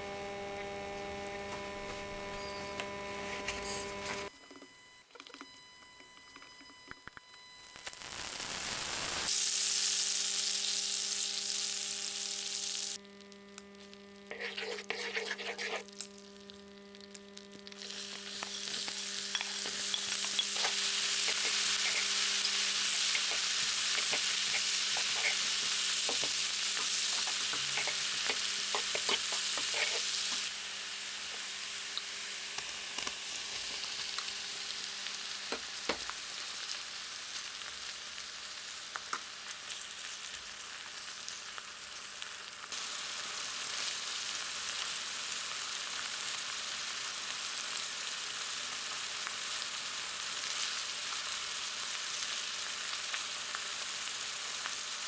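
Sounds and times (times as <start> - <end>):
food sizzling in oil: 7.7 - 55.0.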